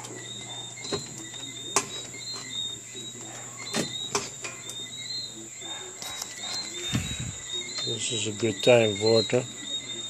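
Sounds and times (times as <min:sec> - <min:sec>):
high chirping: 0:00.0 - 0:10.0
thin high whine: 0:00.0 - 0:10.0.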